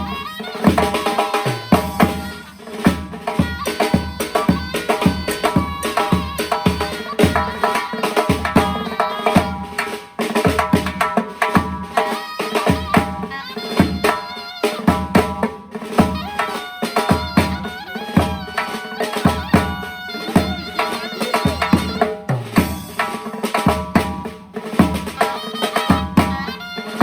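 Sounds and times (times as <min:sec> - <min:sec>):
drum beats: 0:00.0 - 0:27.0
shawm playing folk melody: 0:00.0 - 0:27.0.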